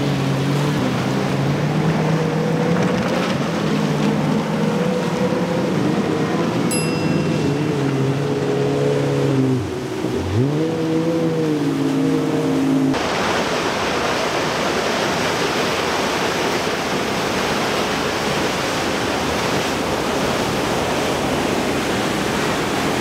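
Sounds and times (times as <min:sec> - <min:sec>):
outboard engines droning: 0:00.0 - 0:23.0
rushing water and spray: 0:00.0 - 0:23.0.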